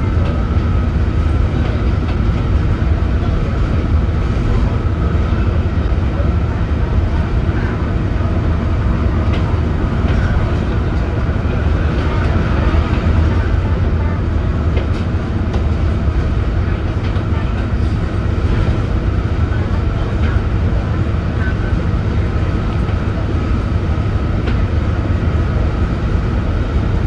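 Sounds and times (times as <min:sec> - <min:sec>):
bus diesel engine drone: 0:00.0 - 0:27.0.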